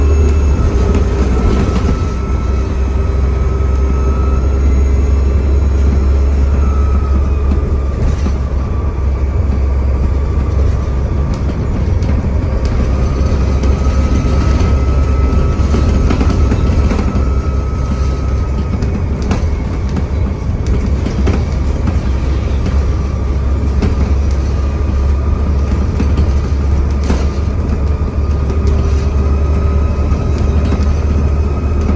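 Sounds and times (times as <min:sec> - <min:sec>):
bus engine rumble: 0:00.0 - 0:31.9
rattles and clicks: 0:00.0 - 0:31.9.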